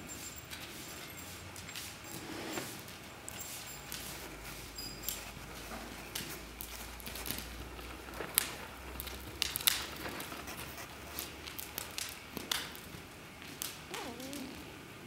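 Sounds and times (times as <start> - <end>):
pony hooves and tack clicking: 0.0 - 14.7.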